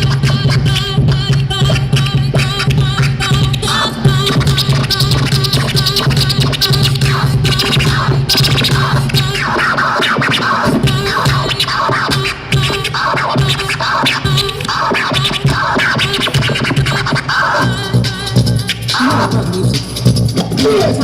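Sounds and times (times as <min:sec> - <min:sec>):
hip hop beat: 0:00.0 - 0:21.0
record scratching: 0:00.0 - 0:21.0.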